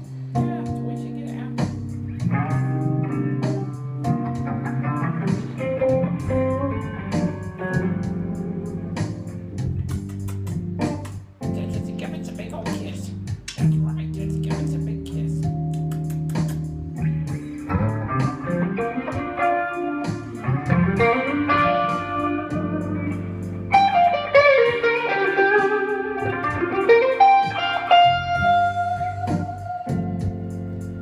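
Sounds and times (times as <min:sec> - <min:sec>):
electric guitar blues lead: 0:00.0 - 0:31.0.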